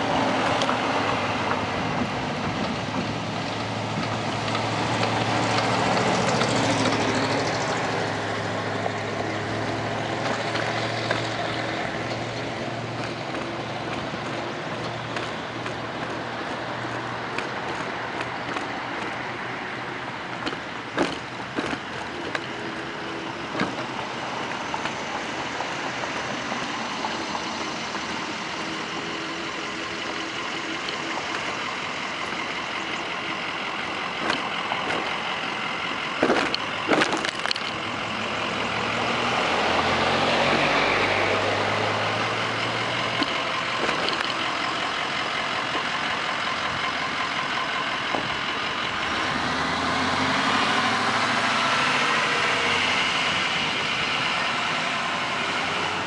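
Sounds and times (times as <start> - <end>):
road traffic noise: 0.0 - 56.0
vehicle engine passing close: 0.0 - 56.0.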